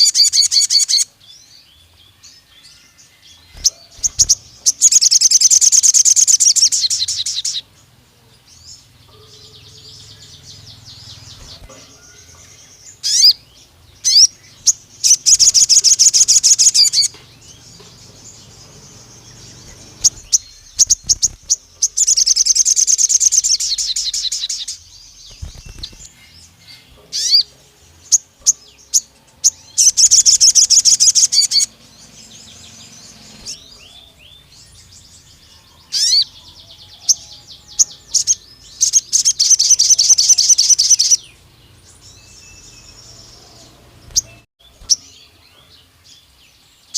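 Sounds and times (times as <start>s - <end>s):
rapid high-pitched bird trills: 0.0s - 1.2s, 2.6s - 7.7s, 9.1s - 41.2s
bird chirping: 0.0s - 46.9s.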